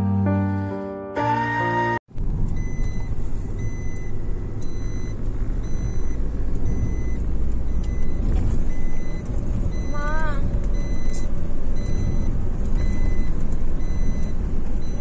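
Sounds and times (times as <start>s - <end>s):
car engine and tyre rumble: 2.1s - 15.0s
car warning chime beeping: 2.5s - 15.0s.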